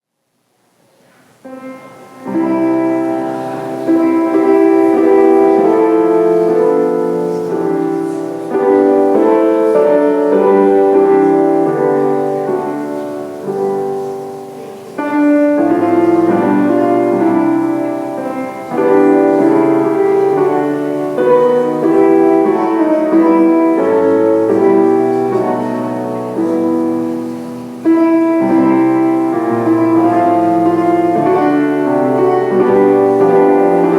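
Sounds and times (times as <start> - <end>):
slow piano chords: 0.8 - 33.9.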